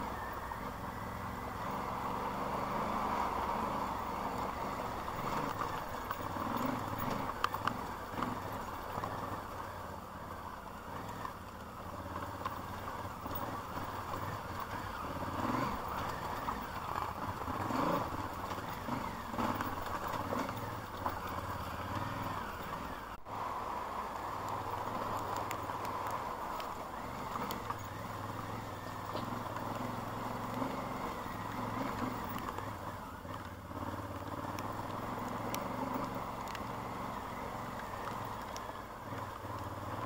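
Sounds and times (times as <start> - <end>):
vehicle engine hum: 0.0 - 40.0.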